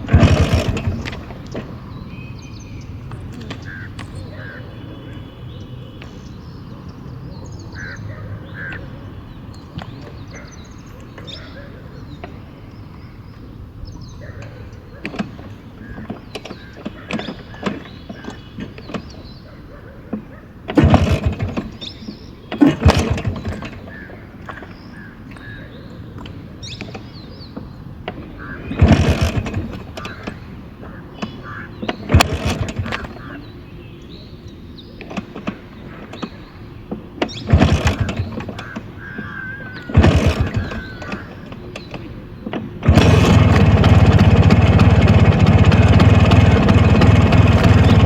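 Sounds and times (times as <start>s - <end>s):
scooter engine revving: 0.0s - 12.5s, 14.9s - 24.6s, 26.2s - 48.0s.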